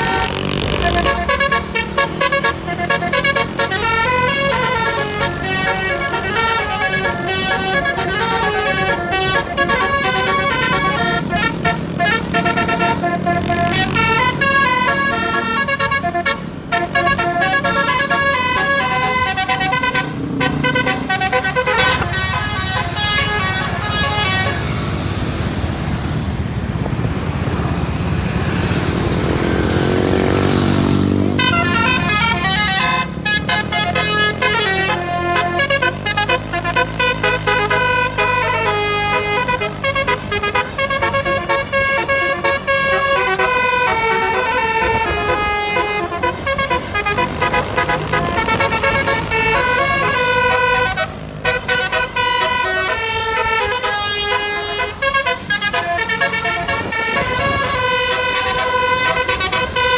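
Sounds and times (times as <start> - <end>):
multi-tone musical bus horn: 0.0 - 26.3, 28.4 - 59.9.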